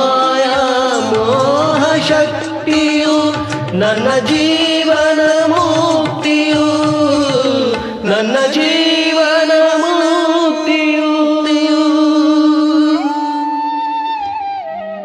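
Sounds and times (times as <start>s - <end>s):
karaoke backing track: 0.0s - 15.0s.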